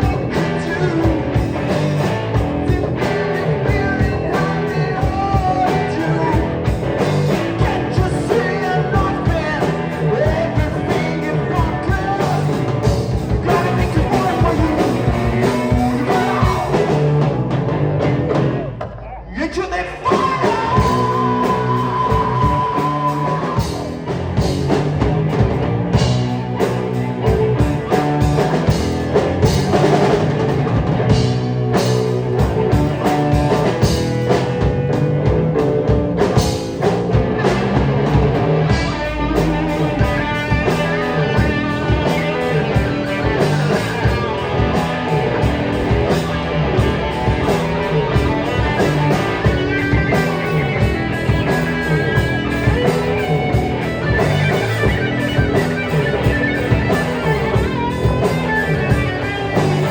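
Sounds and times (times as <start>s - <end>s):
distorted electric guitar: 0.0s - 59.9s
drum kit beats: 0.0s - 59.9s.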